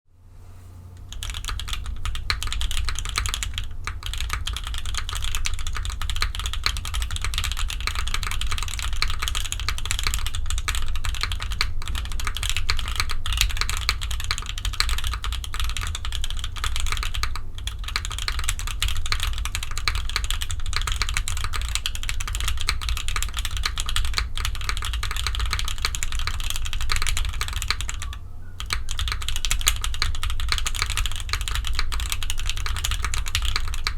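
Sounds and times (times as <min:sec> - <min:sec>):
fast keyboard typing: 0:01.0 - 0:33.9.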